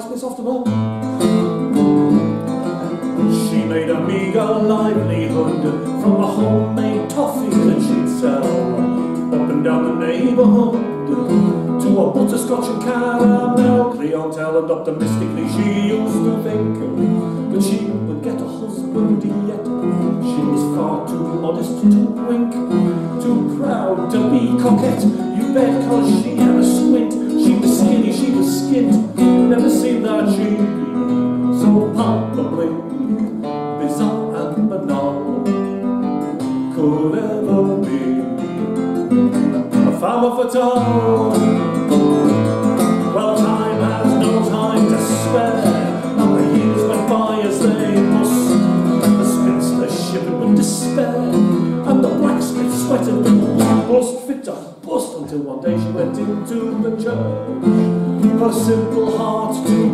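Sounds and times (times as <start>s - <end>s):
classical guitar strumming: 0.0s - 59.9s
man singing: 0.0s - 59.9s.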